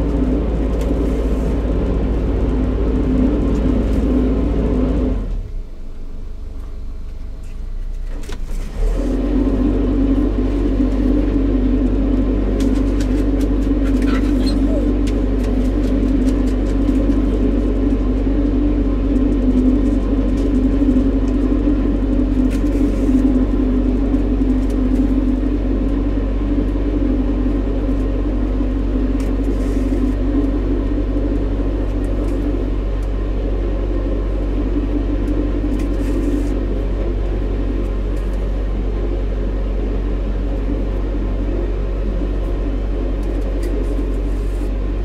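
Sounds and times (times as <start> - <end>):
diesel boat engine drone: 0.0 - 45.0.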